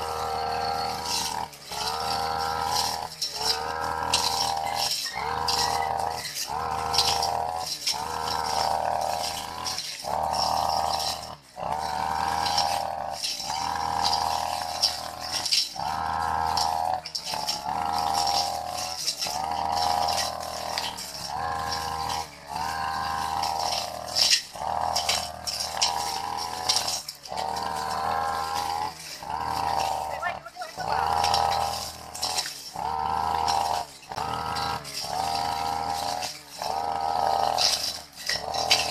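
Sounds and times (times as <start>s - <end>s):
brush cutter cutting grass: 0.0s - 38.9s.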